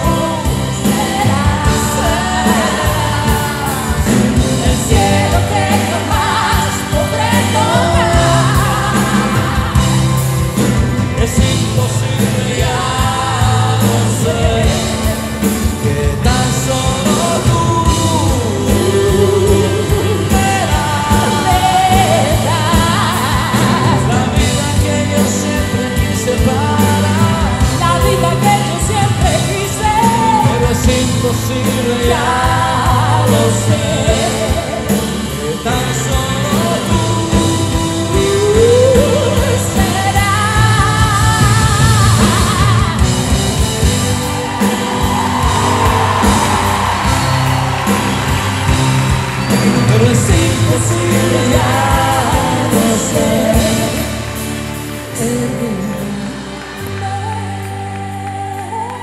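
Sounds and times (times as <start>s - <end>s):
woman singing: 0.0s - 43.7s, 49.9s - 54.4s, 55.0s - 59.0s
man singing: 0.0s - 47.3s, 49.5s - 58.1s
bass guitar: 0.0s - 59.0s
drums: 0.0s - 59.0s
piano: 0.0s - 59.0s.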